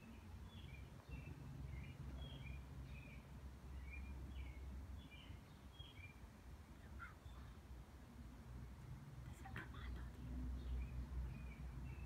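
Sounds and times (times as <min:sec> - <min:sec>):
bird chirping: 0:00.0 - 0:07.8, 0:09.8 - 0:12.0.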